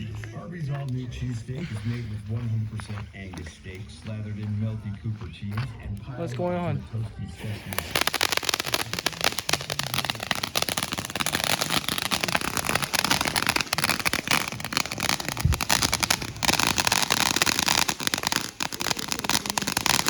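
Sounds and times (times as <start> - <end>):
fireworks popping and crackling: 0.0 - 20.0.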